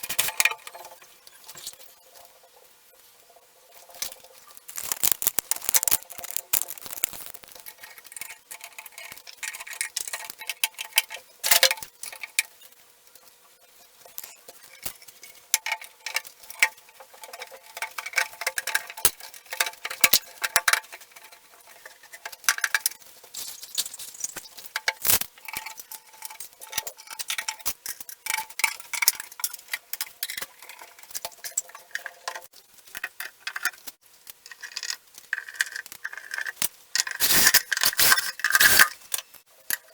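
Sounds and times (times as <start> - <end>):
metal fittings clicking and clinking: 4.0 - 12.5, 14.2 - 39.9.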